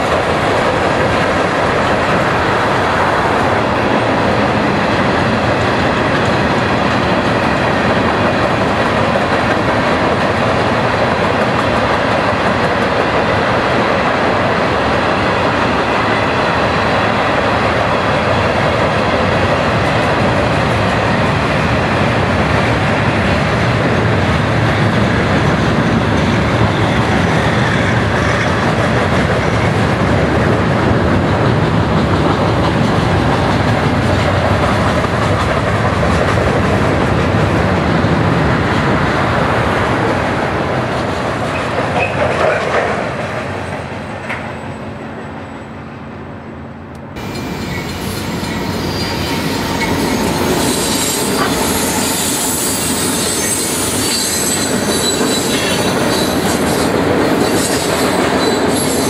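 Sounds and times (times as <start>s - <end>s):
train wheels clattering on bridge: 0.0s - 44.6s, 47.2s - 59.0s
freight train approaching: 0.0s - 59.0s.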